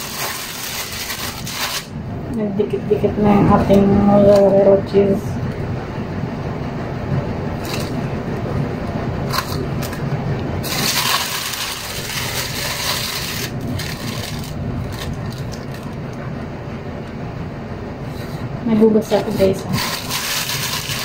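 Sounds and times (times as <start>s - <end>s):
rushing noise: 0.0s - 21.0s
steady low hum: 0.0s - 21.0s.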